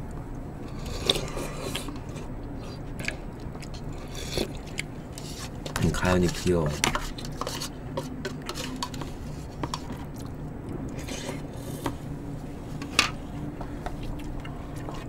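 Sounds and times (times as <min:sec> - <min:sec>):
chewing: 0:00.7 - 0:12.1, 0:13.3 - 0:15.0.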